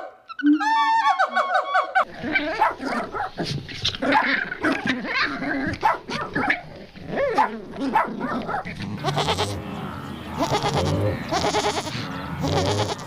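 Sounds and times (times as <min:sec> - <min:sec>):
overlapping animal cries: 0:00.0 - 0:13.0.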